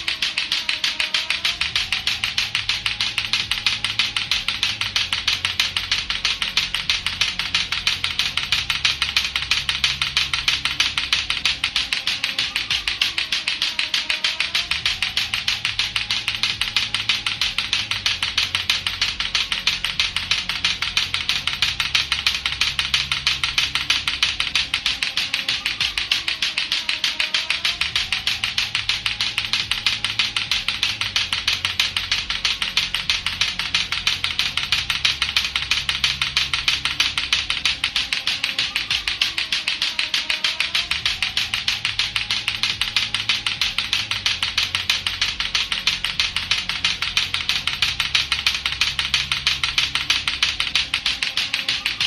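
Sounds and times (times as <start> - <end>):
plastic clacker balls clacking: 0.0 - 52.0.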